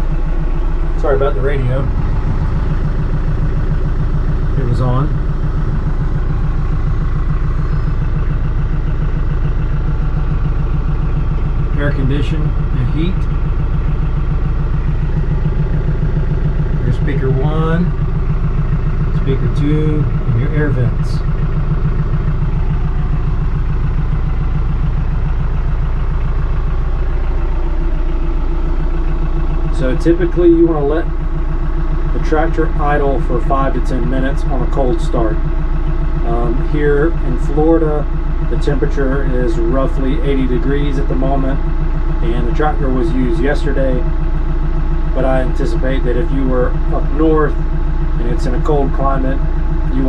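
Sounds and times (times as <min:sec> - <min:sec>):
diesel tractor engine idling: 0:00.0 - 0:50.0.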